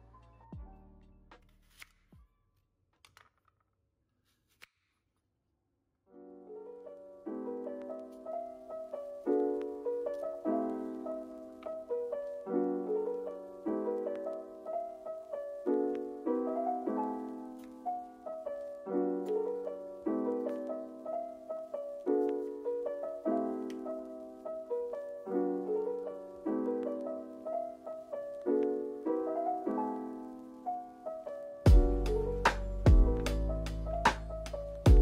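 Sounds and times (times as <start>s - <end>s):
piano music: 6.1s - 35.0s.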